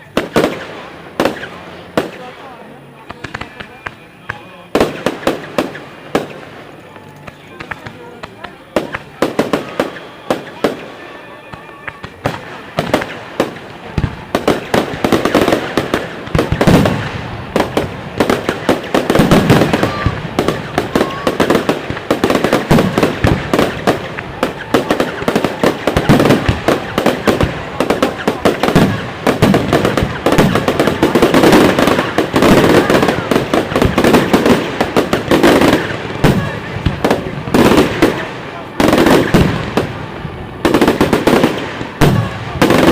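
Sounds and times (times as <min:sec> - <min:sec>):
fireworks bursting with crackling: 0:00.0 - 0:42.9.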